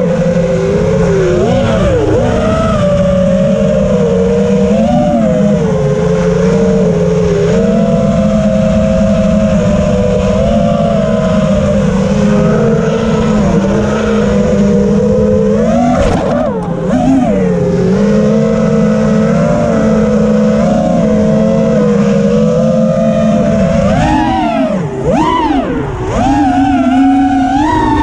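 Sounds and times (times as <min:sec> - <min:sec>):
quadcopter motors buzzing: 0:00.0 - 0:28.0.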